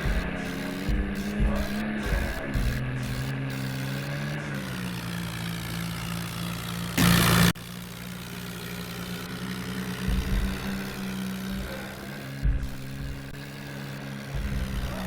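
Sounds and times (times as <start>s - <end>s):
loud burst of noise: 0.0s - 6.3s, 6.9s - 9.0s, 9.6s - 15.0s
tractor diesel engine running: 0.0s - 15.0s.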